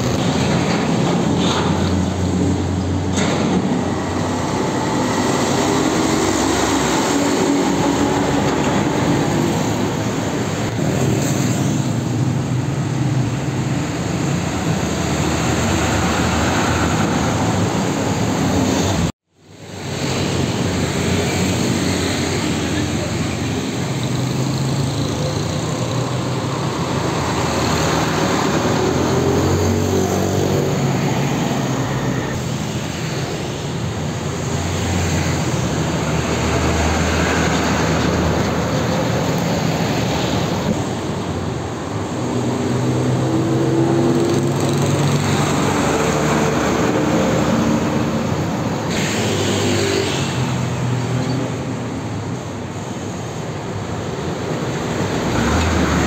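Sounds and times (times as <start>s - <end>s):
diesel trucks driving past: 0.0s - 56.0s
motorbikes: 0.0s - 56.0s
street traffic: 0.0s - 56.0s.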